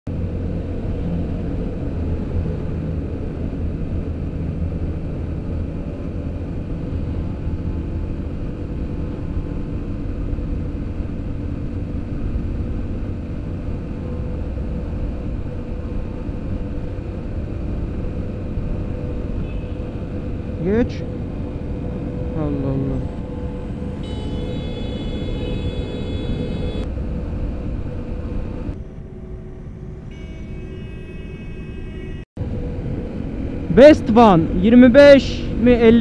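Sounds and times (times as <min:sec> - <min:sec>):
road noise: 0:00.1 - 0:36.0.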